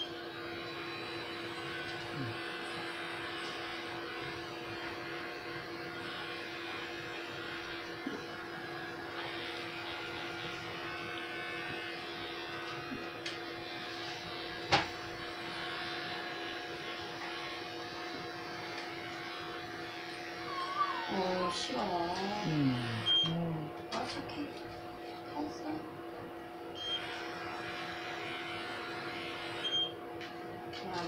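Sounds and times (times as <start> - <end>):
electric hair clippers humming: 0.0 - 24.0, 26.6 - 31.0.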